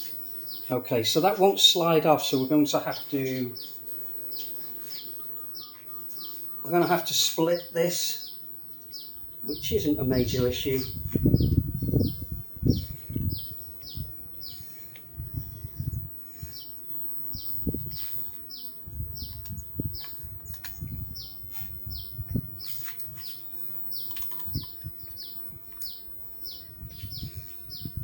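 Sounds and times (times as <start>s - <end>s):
bird chirping: 2.8s - 14.7s, 15.4s - 28.0s.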